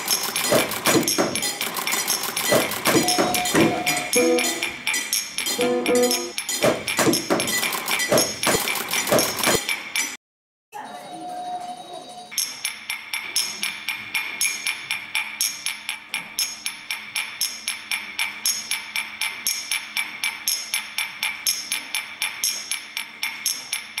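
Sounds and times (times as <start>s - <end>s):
rhythmic percussion beat: 0.0s - 9.9s, 12.4s - 24.0s.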